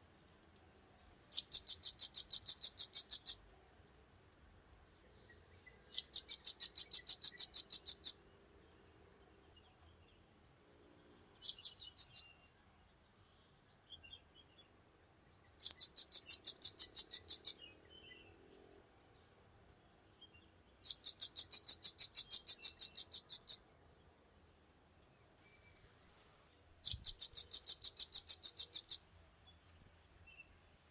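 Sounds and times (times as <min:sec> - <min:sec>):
bird chirping: 0:00.8 - 0:03.4, 0:05.0 - 0:25.9, 0:26.5 - 0:30.9.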